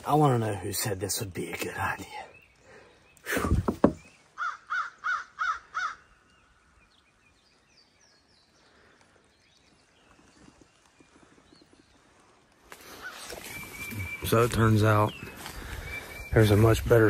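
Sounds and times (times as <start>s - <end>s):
bird calling: 0.0s - 17.0s
faint distant birdsong: 0.0s - 17.0s.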